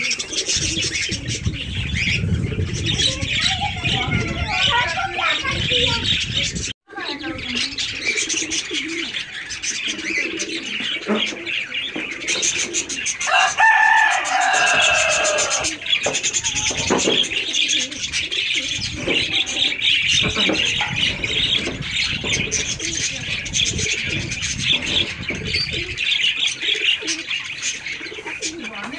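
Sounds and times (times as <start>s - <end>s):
low cooing calls: 0.0s - 5.5s, 7.2s - 28.9s
birds chirping: 0.0s - 28.9s.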